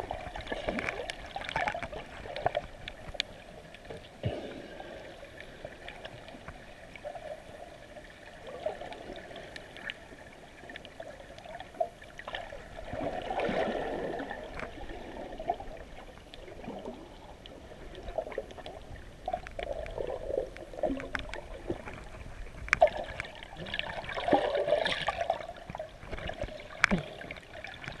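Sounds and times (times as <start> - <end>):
underwater water sloshing: 0.0 - 28.0.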